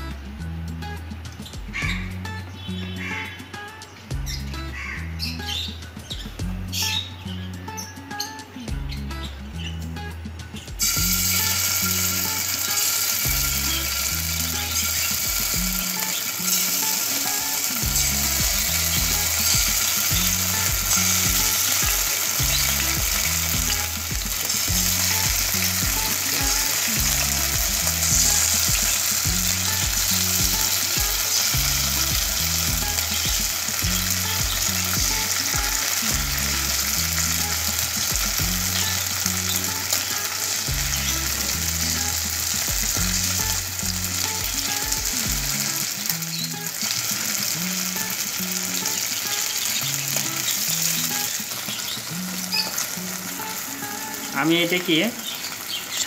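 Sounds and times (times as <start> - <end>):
chicken sizzling in hot oil: 10.8 - 56.0.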